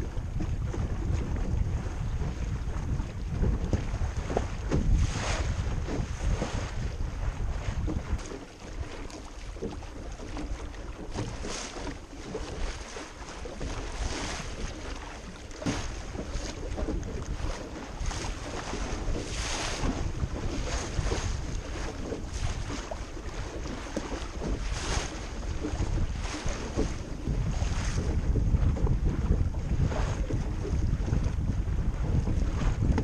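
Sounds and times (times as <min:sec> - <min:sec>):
water rushing along hull: 0:00.0 - 0:33.0
waves splashing against bow: 0:00.0 - 0:33.0
wind buffeting microphone: 0:00.0 - 0:33.0.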